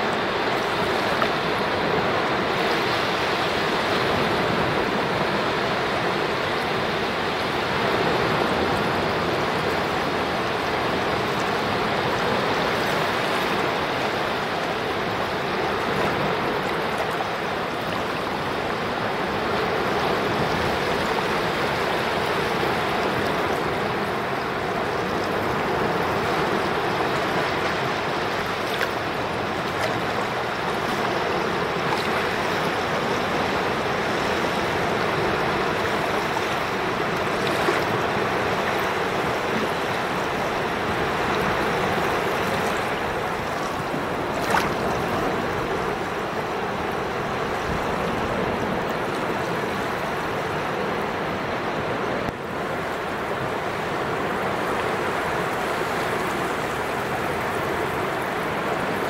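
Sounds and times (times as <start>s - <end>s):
small waves washing on sand: 0.0s - 59.0s.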